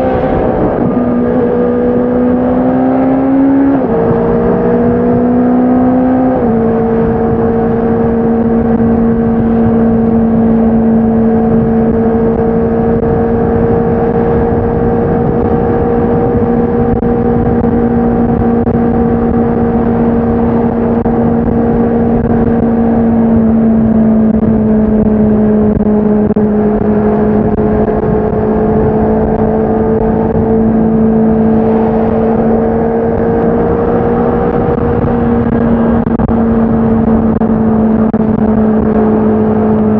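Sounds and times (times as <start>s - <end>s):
motorcycle engine high-pitched: 0.0s - 39.9s.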